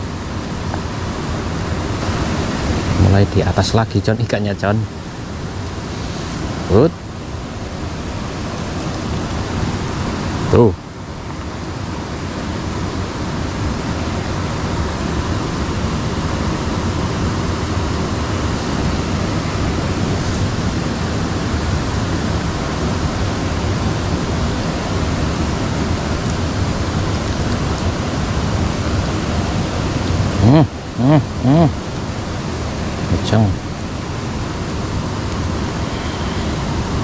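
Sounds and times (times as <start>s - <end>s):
water rushing in a ditch: 0.0s - 37.0s.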